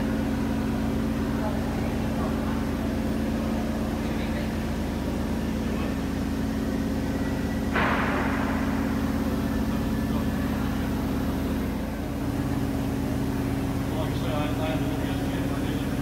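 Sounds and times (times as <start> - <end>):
winding engine hum: 0.0 - 16.0.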